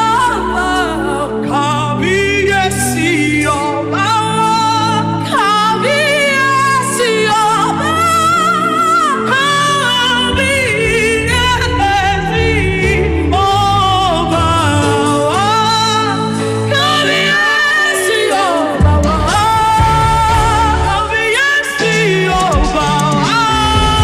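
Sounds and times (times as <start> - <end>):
person singing long wavering notes: 0.0 - 24.0
sustained instrumental chords: 0.0 - 24.0.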